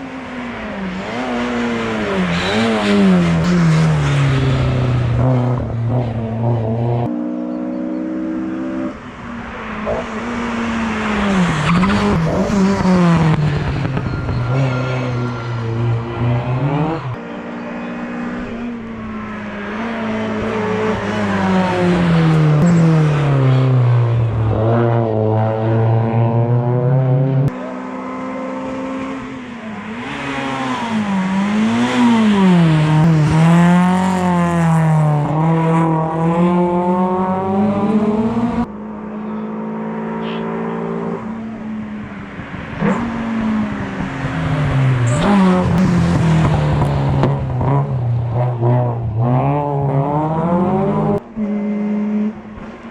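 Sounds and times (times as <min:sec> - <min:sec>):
race car engines accelerating: 0:00.0 - 0:52.9.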